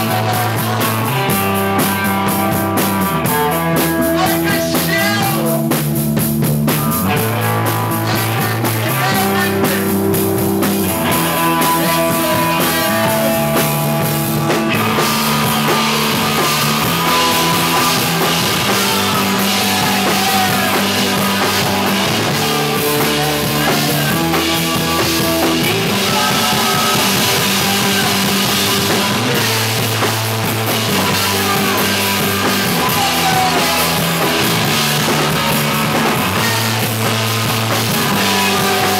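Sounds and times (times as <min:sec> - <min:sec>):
live rock band: 0:00.0 - 0:38.9.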